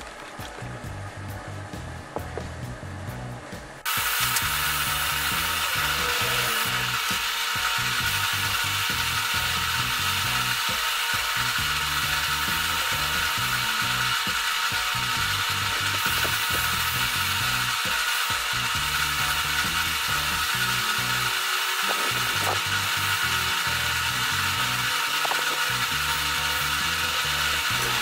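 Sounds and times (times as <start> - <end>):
background music: 0.0 - 28.0
paint spray gun hissing: 3.8 - 28.0.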